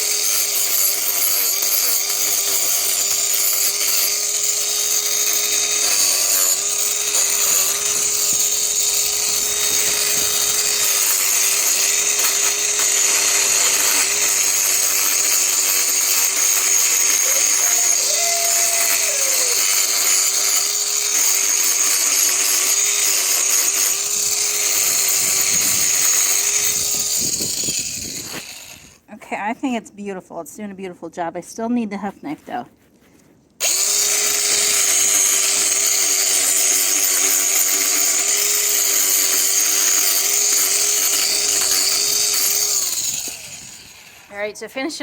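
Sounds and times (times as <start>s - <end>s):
angle grinder grinding hoof: 0.0s - 29.1s, 33.6s - 45.0s.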